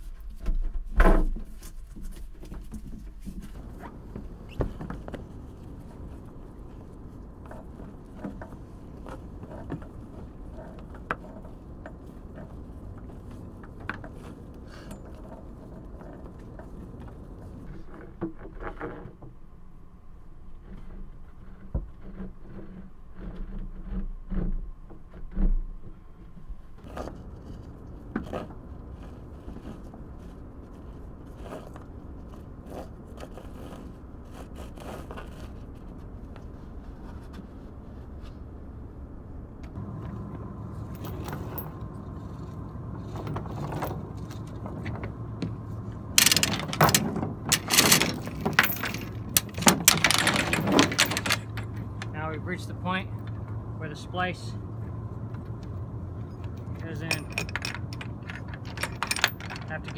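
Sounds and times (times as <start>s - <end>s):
steady hum: 0.0s - 17.9s, 26.5s - 59.9s
chain and windlass clanking: 0.0s - 19.2s, 20.7s - 37.6s, 39.7s - 59.9s
rope and hardware knocks and scrapes: 0.0s - 19.4s, 20.5s - 38.7s, 39.7s - 59.9s.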